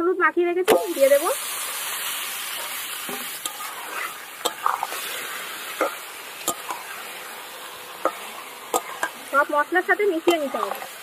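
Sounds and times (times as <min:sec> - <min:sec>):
fish sizzling in a pan: 0:00.7 - 0:11.0.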